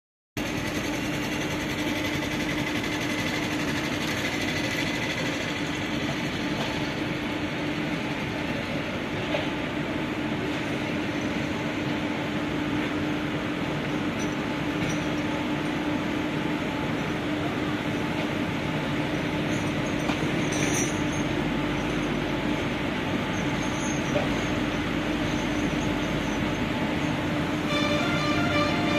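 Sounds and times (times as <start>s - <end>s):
electric locomotive hum: 0.4s - 28.9s.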